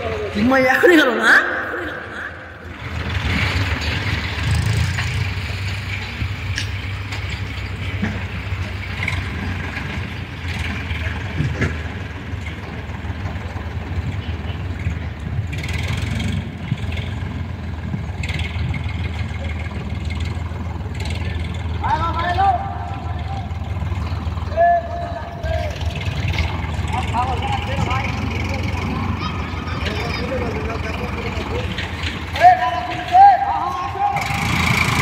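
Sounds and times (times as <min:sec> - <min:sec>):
diesel tractor engine running: 0:00.0 - 0:35.0.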